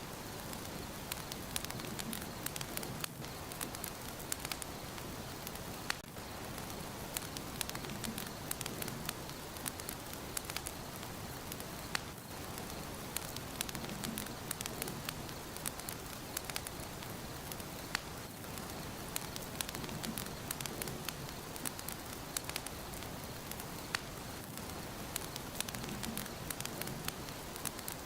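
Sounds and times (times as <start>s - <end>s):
fire crackling in fireplace: 0.0s - 28.0s.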